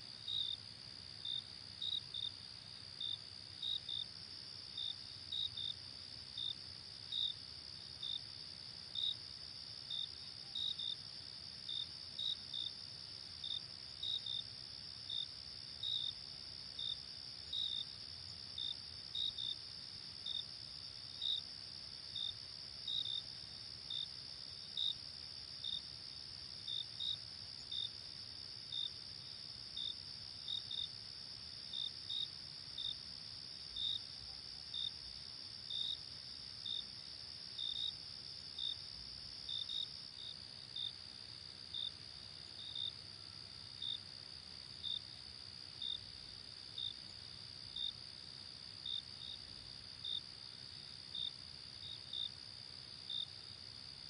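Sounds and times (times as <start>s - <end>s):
insects chirping: 1.2s - 54.0s.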